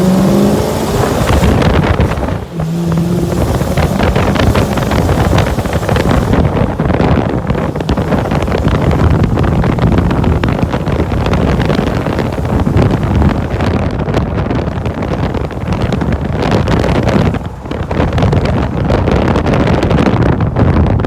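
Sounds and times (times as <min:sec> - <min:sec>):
car engine running: 0:00.0 - 0:21.0
wind buffeting microphone: 0:00.0 - 0:21.0.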